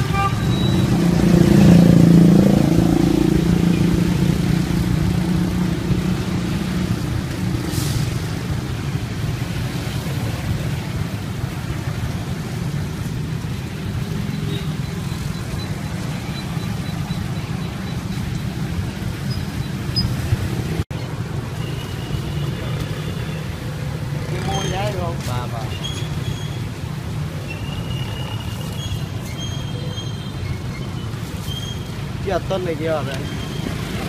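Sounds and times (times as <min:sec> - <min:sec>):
road noise: 0:00.0 - 0:34.0
vehicle engine humming: 0:00.0 - 0:34.0.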